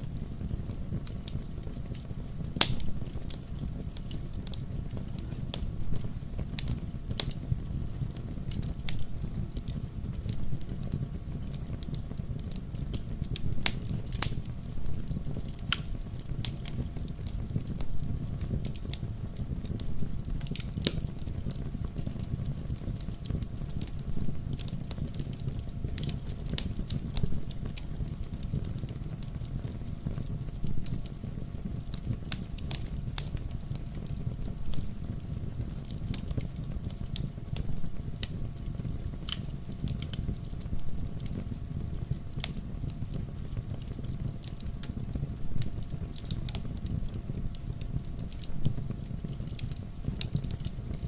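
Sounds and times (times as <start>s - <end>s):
fire crackling and popping: 0.0s - 51.0s
low rumble of burning: 0.0s - 51.0s.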